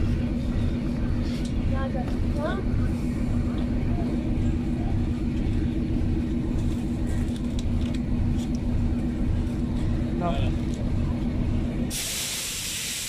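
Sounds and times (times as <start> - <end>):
train engine droning: 0.0 - 13.0.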